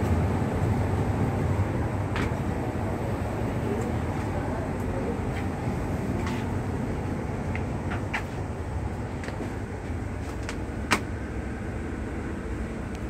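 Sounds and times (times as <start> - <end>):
low rumble in metal compartment: 0.0 - 13.0.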